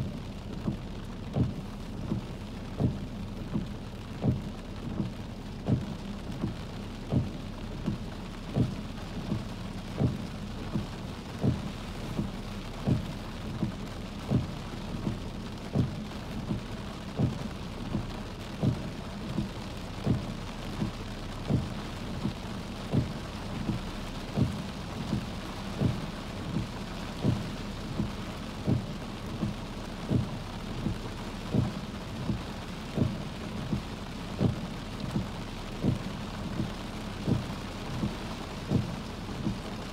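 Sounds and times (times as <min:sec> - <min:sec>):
rain pattering on car: 0:00.0 - 0:39.9
windshield wipers thumping: 0:00.5 - 0:39.9.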